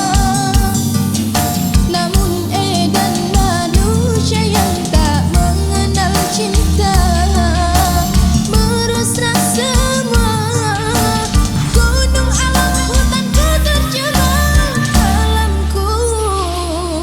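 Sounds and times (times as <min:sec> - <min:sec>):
pop song with band: 0:00.0 - 0:17.0.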